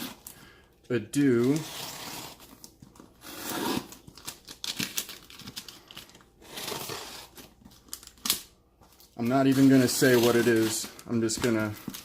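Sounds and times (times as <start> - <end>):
packaging crinkling and tearing: 1.2 - 12.0.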